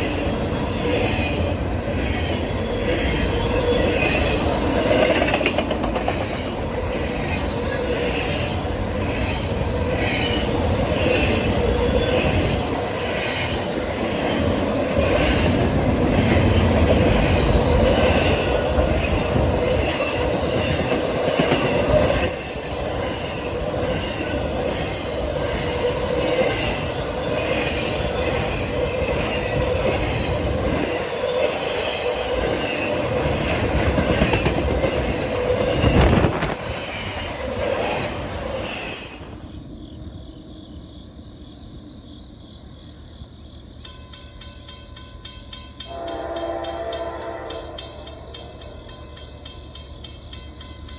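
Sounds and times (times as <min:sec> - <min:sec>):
train wheels clicking over rail joints: 0:00.0 - 0:39.2, 0:43.8 - 0:50.9.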